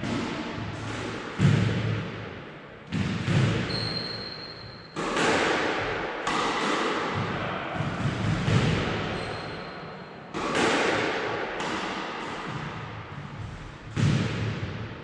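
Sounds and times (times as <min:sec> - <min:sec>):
squash ball hits echoing: 0:00.0 - 0:15.0.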